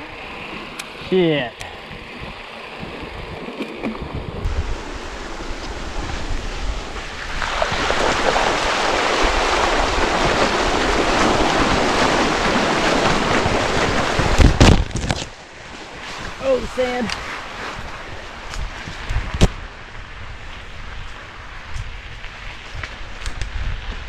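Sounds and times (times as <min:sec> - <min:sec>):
bike wheels churning water: 0:00.0 - 0:24.0.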